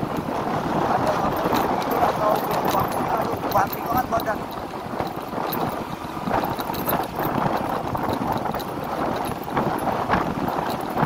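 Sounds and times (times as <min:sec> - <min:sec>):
scooter road and engine noise: 0:00.0 - 0:11.0
wind buffeting microphone: 0:00.0 - 0:11.0.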